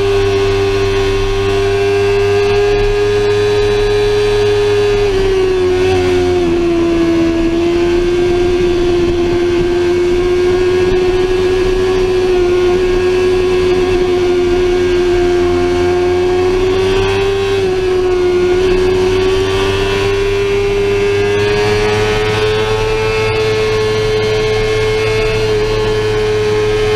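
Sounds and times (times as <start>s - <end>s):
low rush of wind: 0.0s - 26.9s
motorcycle engine at high revs: 0.0s - 26.9s.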